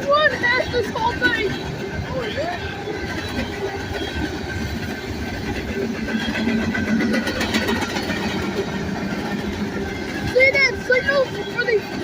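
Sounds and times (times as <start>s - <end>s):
train wheels rumbling on rail: 0.0s - 12.0s
wheel clacks over rail joints: 0.0s - 12.0s.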